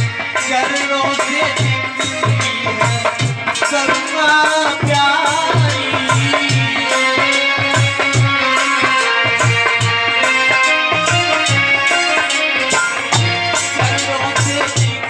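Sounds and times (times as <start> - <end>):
devotional melody: 0.0 - 15.0
rattling percussion: 0.0 - 15.0.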